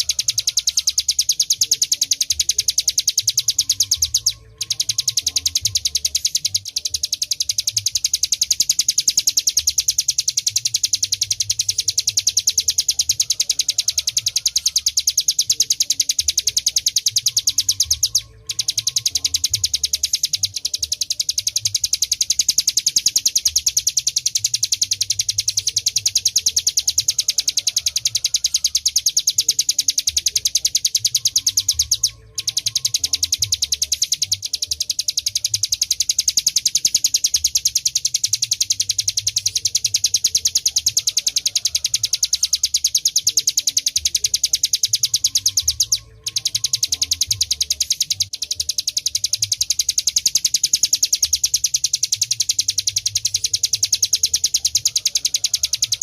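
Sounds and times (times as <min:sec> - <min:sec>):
bird singing fast high trill: 0:00.0 - 0:56.0.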